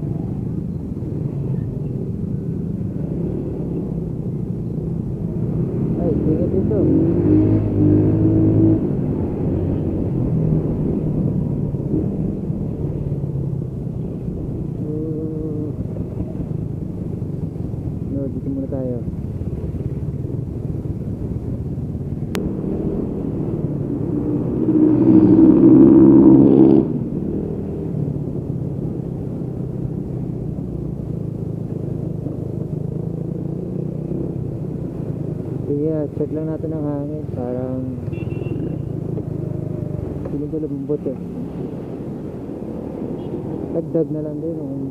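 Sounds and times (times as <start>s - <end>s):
wind rumble on microphone: 0.0s - 44.9s.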